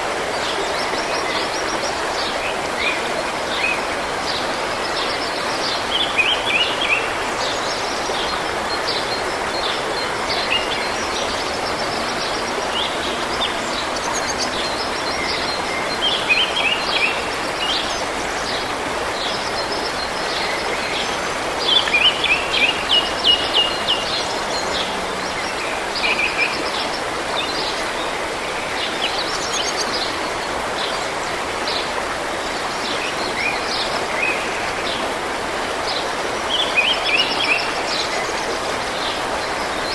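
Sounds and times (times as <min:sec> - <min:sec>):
forest stream running: 0:00.0 - 0:39.9.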